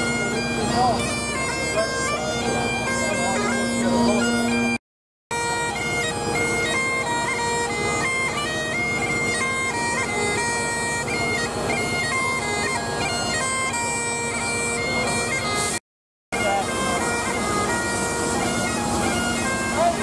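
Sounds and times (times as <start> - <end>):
bagpipes playing a tune: 0.0 - 15.8, 16.4 - 20.0.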